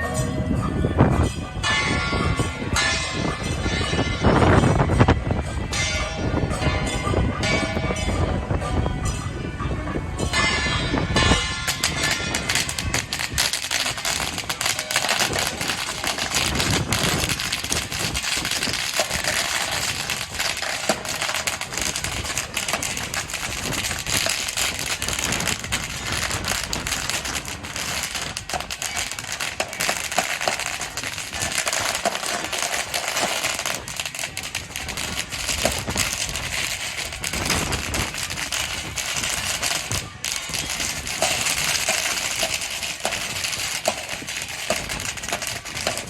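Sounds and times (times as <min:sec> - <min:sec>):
string of firecrackers crackling: 0:00.0 - 0:46.0.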